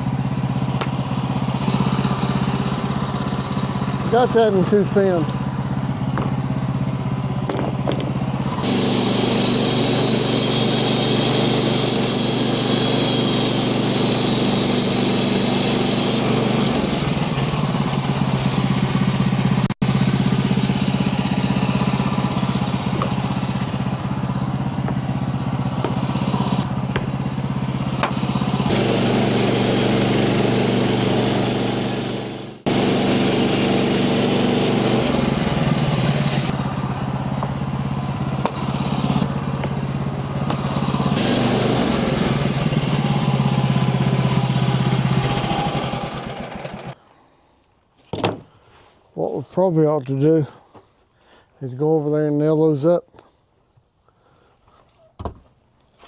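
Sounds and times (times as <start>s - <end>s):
band saw blade cutting log: 0.0s - 6.4s, 7.4s - 47.0s
small gasoline engine running: 0.0s - 47.0s.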